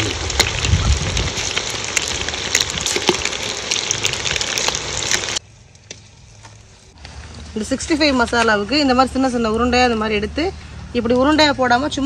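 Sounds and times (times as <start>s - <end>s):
food deep-frying in oil: 0.0s - 10.3s.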